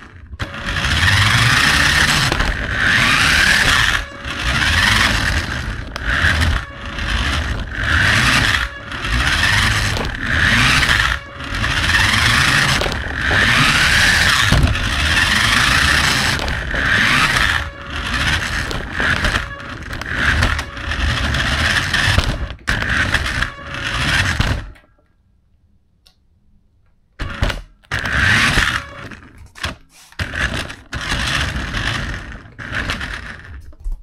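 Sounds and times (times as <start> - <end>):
toy car electric motor whirring: 0.0 - 24.8, 27.2 - 33.8.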